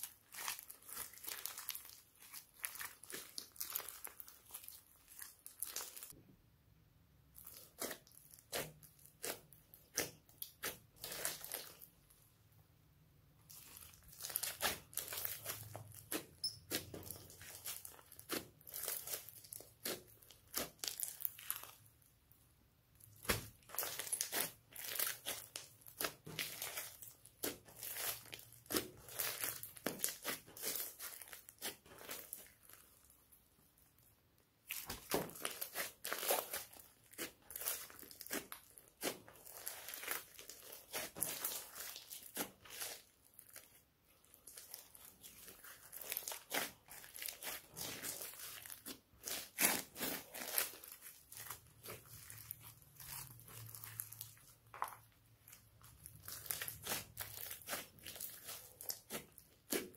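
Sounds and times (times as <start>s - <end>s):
slime crackling and popping: 0.0s - 6.2s, 13.5s - 21.9s, 22.9s - 33.2s, 34.6s - 59.9s.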